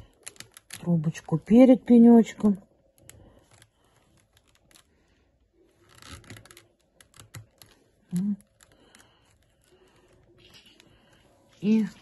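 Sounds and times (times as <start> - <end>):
paper tubes clicking and rustling: 0.0 - 12.0.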